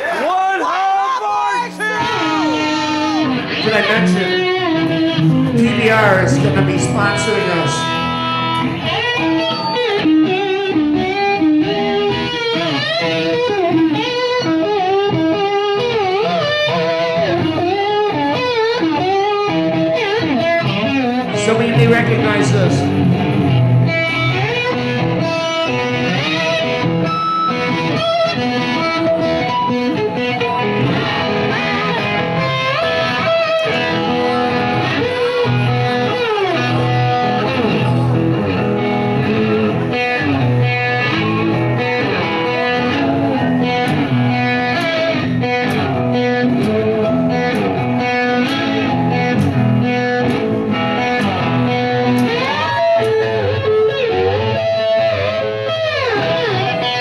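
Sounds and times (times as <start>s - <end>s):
electric guitar lead: 1.6s - 57.0s.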